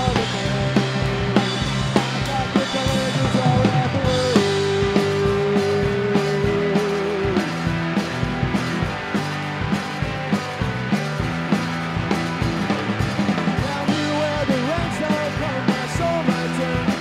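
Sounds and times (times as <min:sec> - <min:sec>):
drum kit beat: 0:00.0 - 0:17.0
guitar: 0:00.0 - 0:17.0
live blues band playing: 0:00.0 - 0:17.0.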